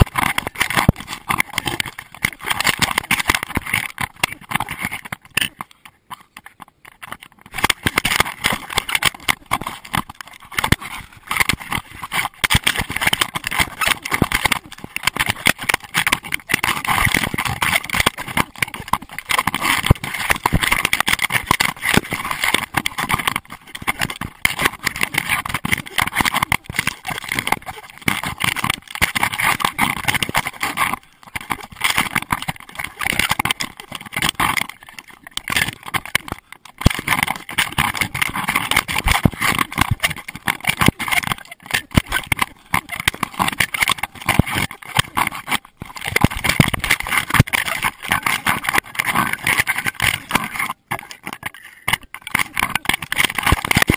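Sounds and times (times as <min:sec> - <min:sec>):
camera knocking and rattling: 0:00.0 - 0:53.9.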